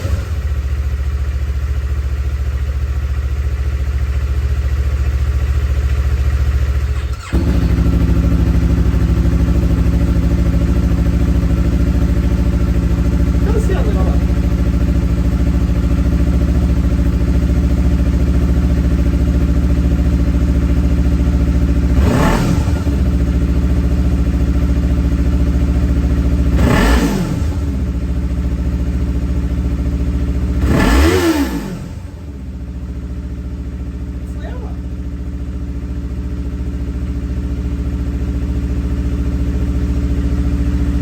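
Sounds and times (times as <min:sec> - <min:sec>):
motorcycle engine idling and revving: 0:00.0 - 0:41.0.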